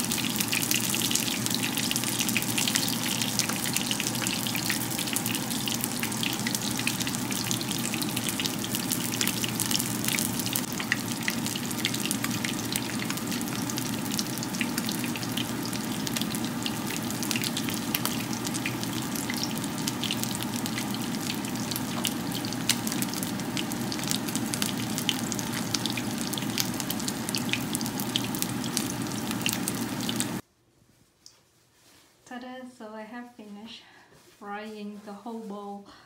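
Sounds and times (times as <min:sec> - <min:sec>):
food frying in hot oil: 0:00.0 - 0:30.4.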